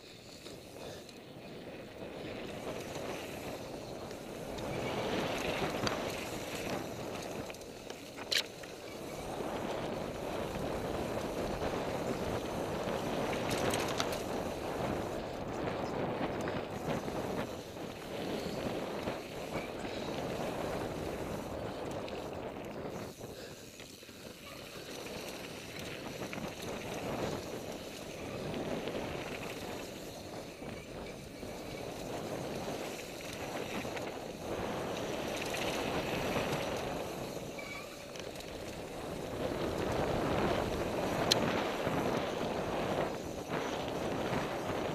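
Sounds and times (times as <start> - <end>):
bike tyre and wind rush: 0.0 - 44.9.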